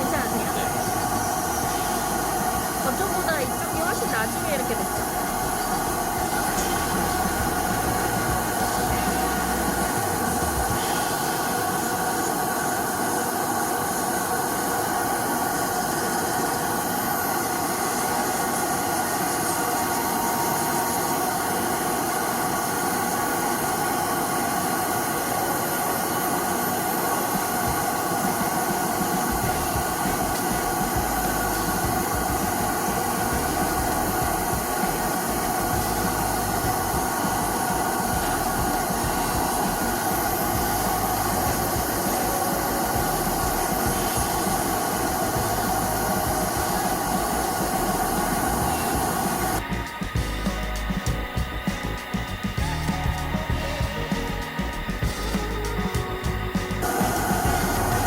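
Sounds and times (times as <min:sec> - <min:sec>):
electric nail drill humming: 0:00.0 - 0:50.3.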